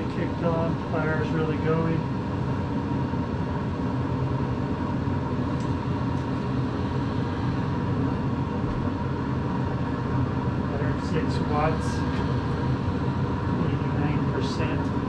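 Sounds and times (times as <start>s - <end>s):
grill fan droning: 0.0s - 15.0s.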